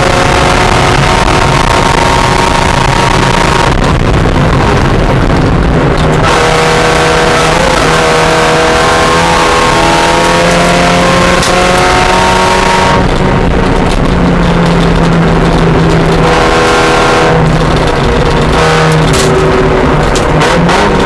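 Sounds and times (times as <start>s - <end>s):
loud rushing noise: 0.0s - 21.0s
race car engine at full throttle: 0.0s - 21.0s.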